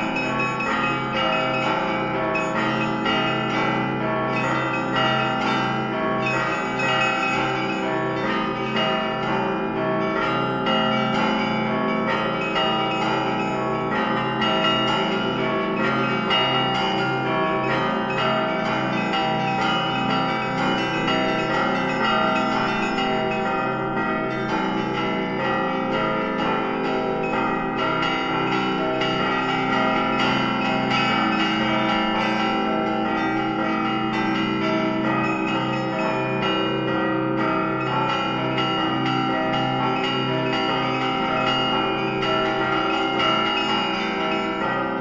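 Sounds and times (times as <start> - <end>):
small high bells ringing: 0.0 - 45.0.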